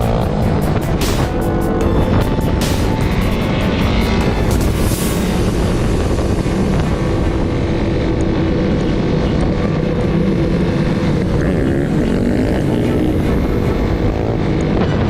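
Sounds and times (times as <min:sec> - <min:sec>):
off-road vehicle engine running: 0:00.0 - 0:15.0
wind buffeting microphone: 0:00.0 - 0:15.0.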